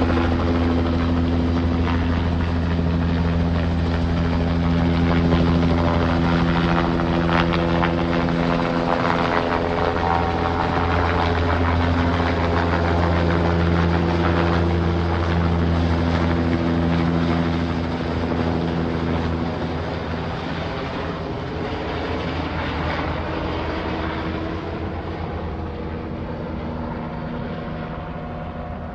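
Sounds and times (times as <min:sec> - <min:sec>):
helicopter flying away: 0:00.0 - 0:28.9.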